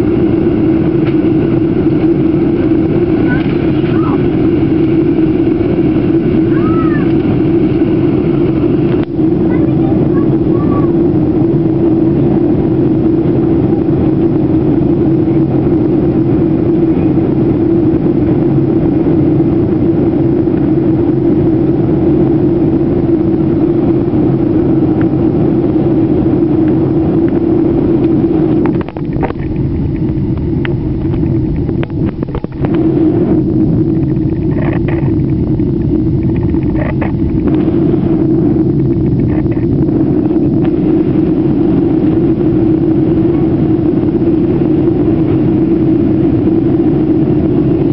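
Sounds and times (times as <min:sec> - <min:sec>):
aircraft engine and propeller drone: 0:00.0 - 0:47.9.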